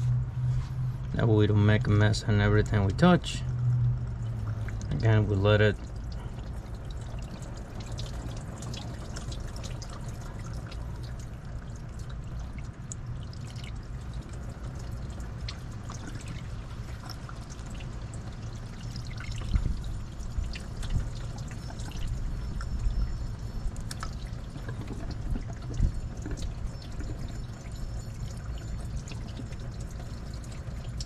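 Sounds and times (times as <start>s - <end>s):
coolant trickling and dripping: 0.0s - 31.0s
steady low hum: 0.0s - 31.0s.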